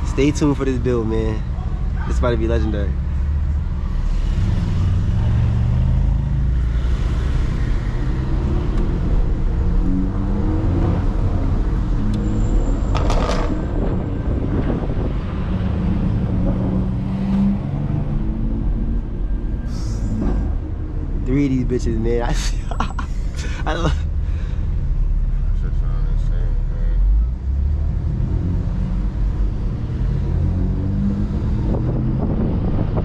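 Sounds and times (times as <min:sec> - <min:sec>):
car engines accelerating: 0:00.0 - 0:33.0.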